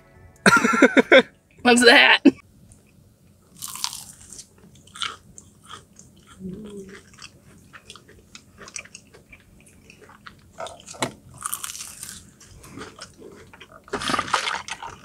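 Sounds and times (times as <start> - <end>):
crunching and chewing food: 2.6 - 15.0.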